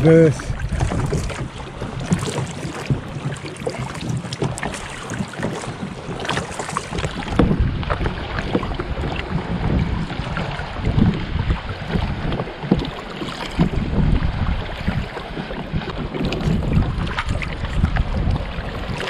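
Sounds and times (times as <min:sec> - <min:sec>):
paddles splashing water: 0:00.0 - 0:19.0
wind buffeting microphone: 0:00.0 - 0:19.0.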